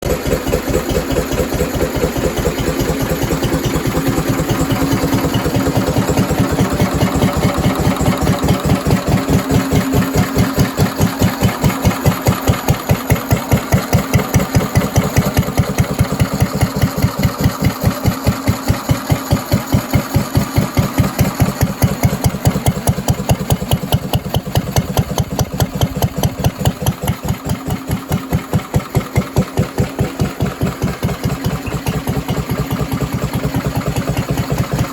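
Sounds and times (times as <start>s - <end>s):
stationary engine idling: 0.0s - 34.9s.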